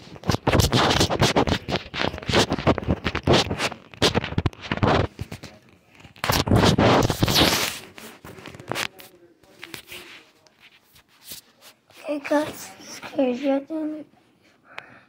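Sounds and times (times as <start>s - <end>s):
phone rustling against fabric: 0.0s - 12.8s.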